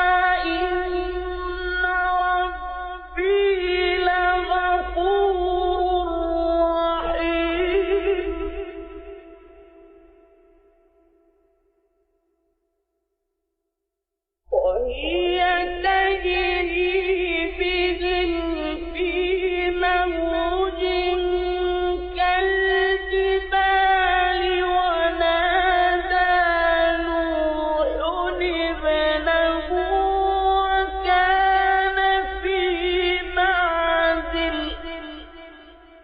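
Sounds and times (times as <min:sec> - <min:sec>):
man reciting in melodic chant: 0:00.0 - 0:08.9, 0:14.5 - 0:35.5.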